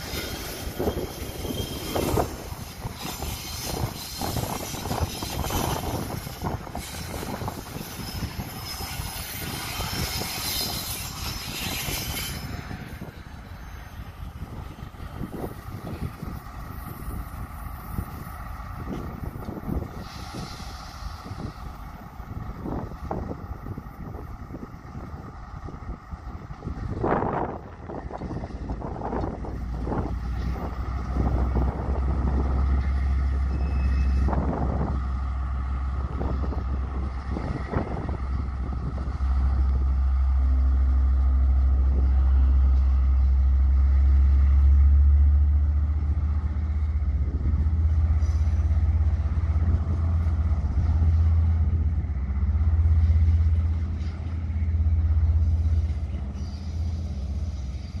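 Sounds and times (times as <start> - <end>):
freight train rumble: 0.0 - 58.0.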